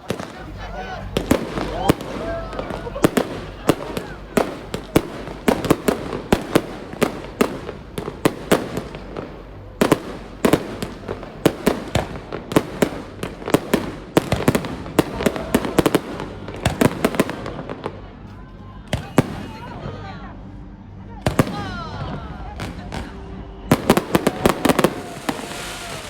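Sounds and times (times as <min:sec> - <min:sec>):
fireworks bangs: 0:00.0 - 0:19.9, 0:21.3 - 0:26.0.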